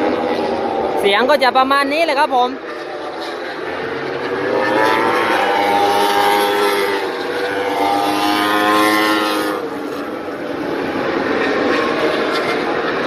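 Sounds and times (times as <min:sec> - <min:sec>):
racing motorcycles passing at high revs: 0:00.0 - 0:13.0.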